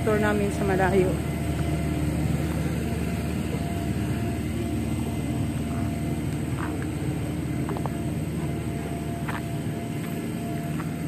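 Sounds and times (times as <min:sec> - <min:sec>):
faint even hum: 0:00.0 - 0:11.0
low engine rumble: 0:00.0 - 0:11.0.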